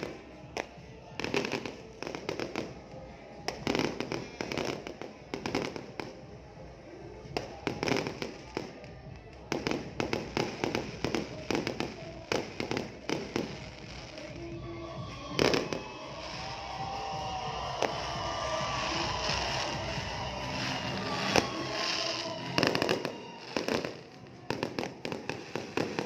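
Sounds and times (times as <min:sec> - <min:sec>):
fireworks banging and crackling: 0:00.0 - 0:26.0.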